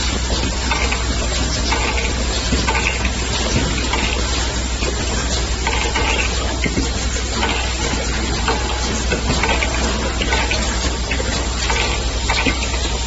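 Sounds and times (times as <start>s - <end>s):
low machine hum: 0.0s - 13.0s
machine hiss: 0.0s - 13.0s
mechanism clicks and clatters: 0.0s - 13.0s.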